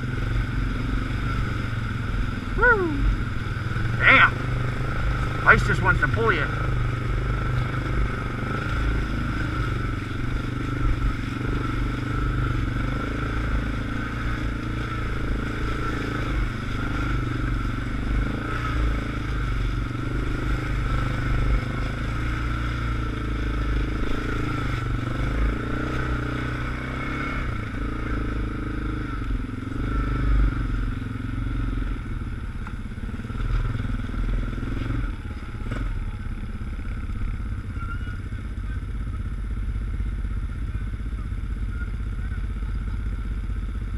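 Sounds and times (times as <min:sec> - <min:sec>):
atv engine running under load: 0:00.0 - 0:43.9.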